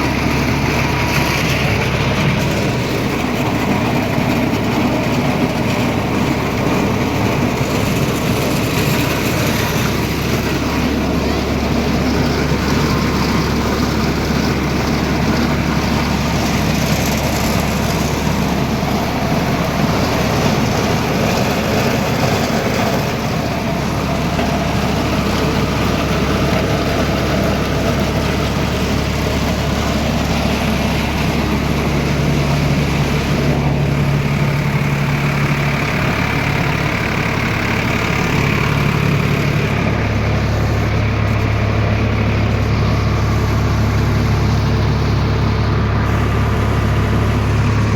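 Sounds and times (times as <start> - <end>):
diesel tractor engine running: 0.0 - 47.9
higher steady hum: 0.0 - 47.9.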